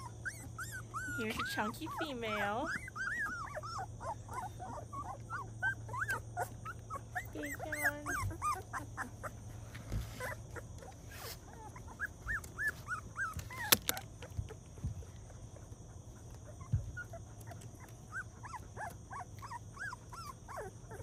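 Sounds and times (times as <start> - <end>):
puppies whimpering: 0.0 - 21.0.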